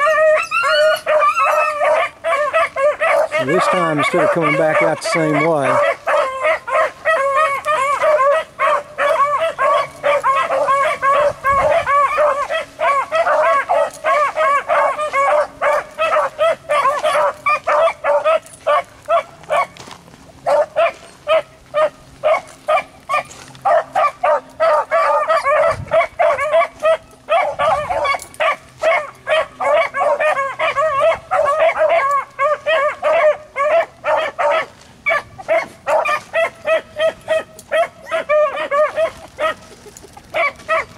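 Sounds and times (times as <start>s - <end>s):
hounds baying: 0.0s - 40.9s.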